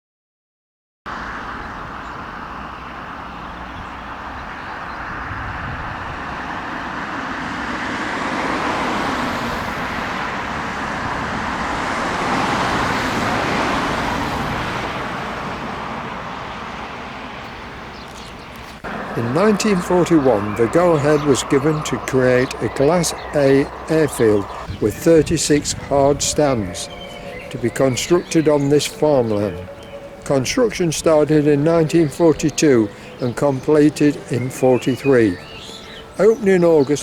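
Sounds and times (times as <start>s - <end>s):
vehicle rushing noise: 1.1s - 36.4s.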